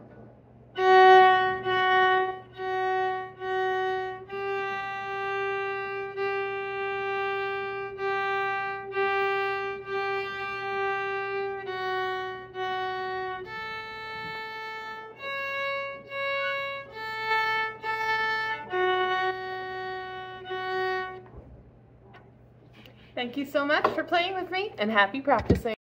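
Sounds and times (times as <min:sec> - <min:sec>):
bowed viola notes: 0:00.0 - 0:21.5.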